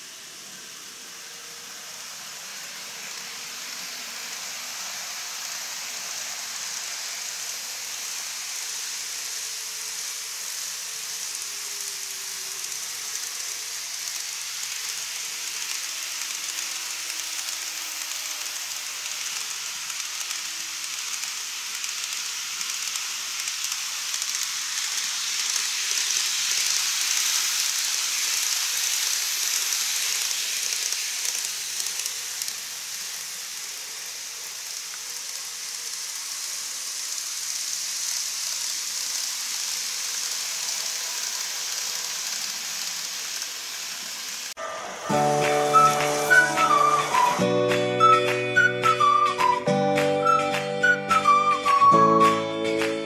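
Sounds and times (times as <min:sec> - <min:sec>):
model train wheels rattling: 0:00.0 - 0:47.4, 0:48.0 - 0:49.6.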